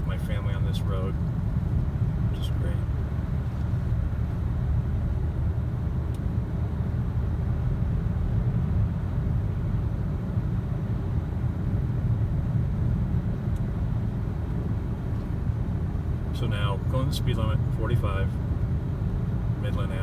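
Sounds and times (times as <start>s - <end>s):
car engine: 0.0s - 20.0s.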